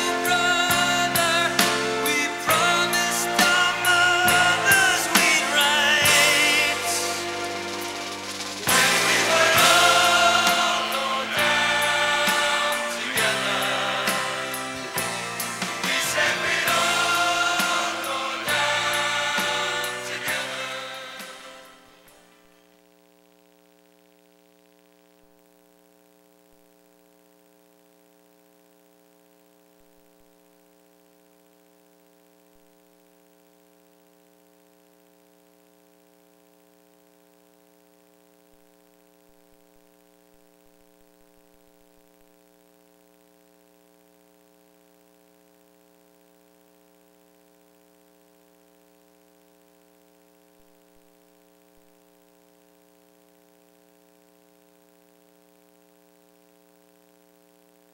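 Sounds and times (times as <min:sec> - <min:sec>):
faint hum with hiss: 0:00.0 - 0:57.9.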